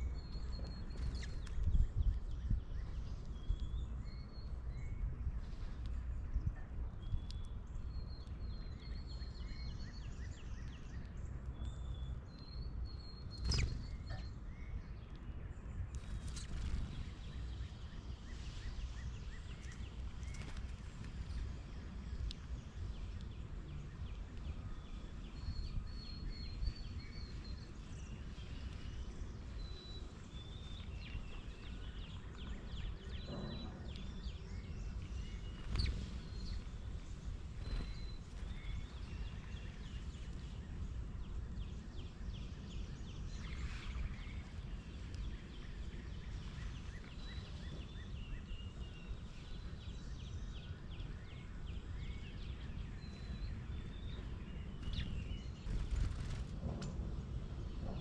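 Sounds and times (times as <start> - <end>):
low outdoor rumble: 0.0 - 58.0
songbirds chirping and trilling: 0.0 - 58.0.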